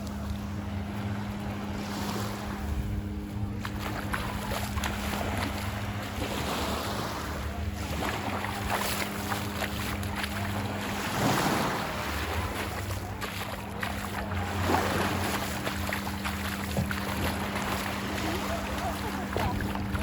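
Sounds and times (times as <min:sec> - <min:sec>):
ocean surf washing onto sand: 0:03.6 - 0:20.0.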